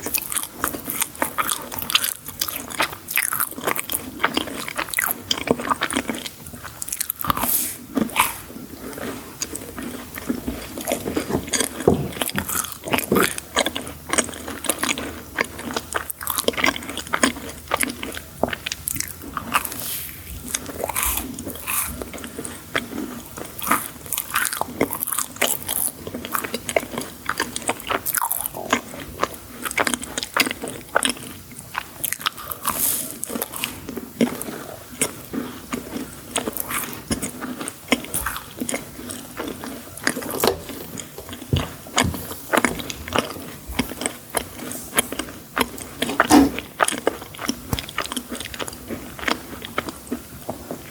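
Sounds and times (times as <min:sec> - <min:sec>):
crunching bites of sweets: 0:00.0 - 0:50.9.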